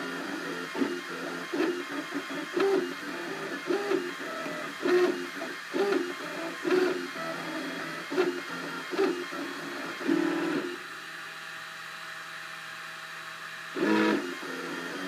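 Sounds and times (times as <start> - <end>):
stepper motors whining: 0.0 - 10.9, 13.6 - 15.0.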